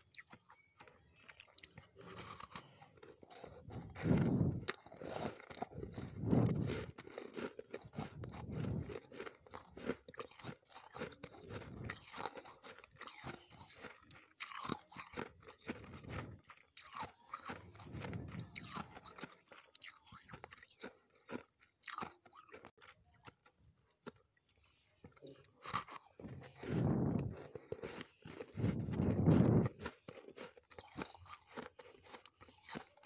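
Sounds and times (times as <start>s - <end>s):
crunchy chewing of frost: 0.0s - 33.0s.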